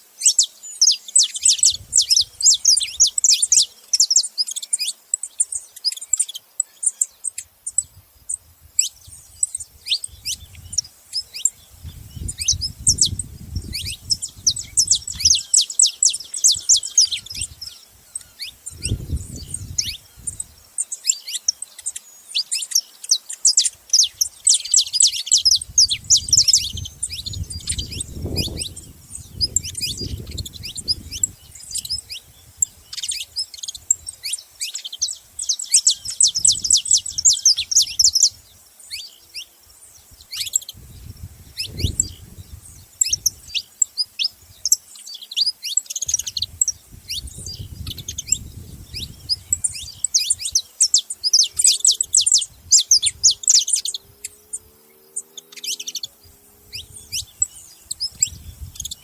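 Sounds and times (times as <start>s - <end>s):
finches chirping: 0.0s - 59.0s.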